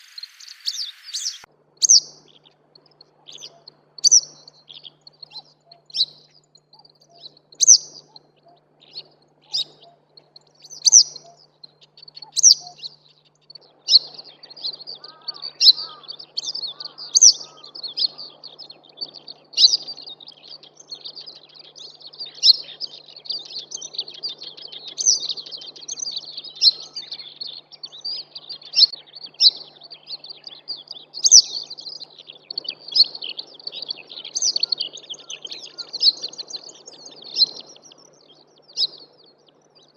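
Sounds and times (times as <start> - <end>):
wagtail chirping: 0.0 - 39.9.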